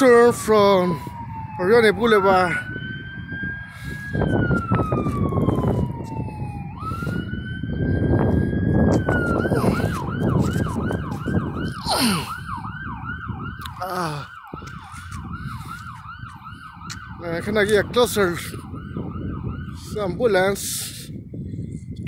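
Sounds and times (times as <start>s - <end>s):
ambulance siren: 0.0s - 22.0s
road traffic rumble: 0.0s - 22.0s.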